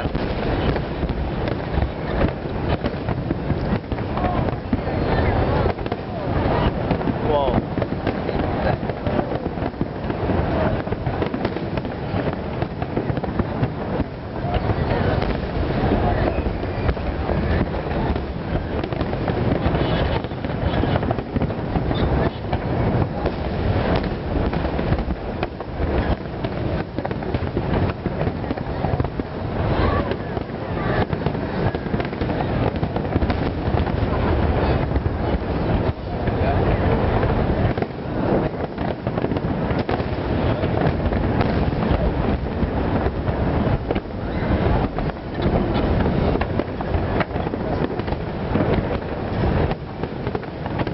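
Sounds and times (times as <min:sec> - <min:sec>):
fireworks popping and crackling: 0:00.0 - 0:50.9.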